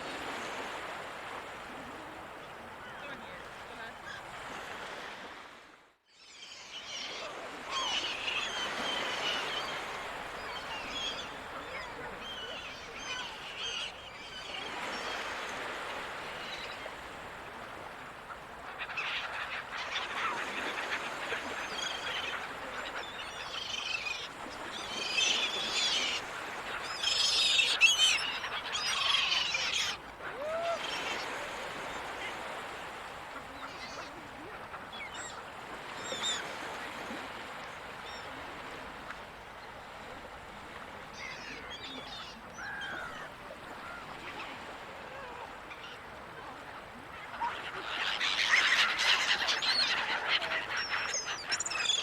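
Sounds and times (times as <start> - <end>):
ocean surf: 0.0 - 5.8, 6.8 - 52.0
seagulls calling: 6.5 - 37.3, 41.1 - 52.0.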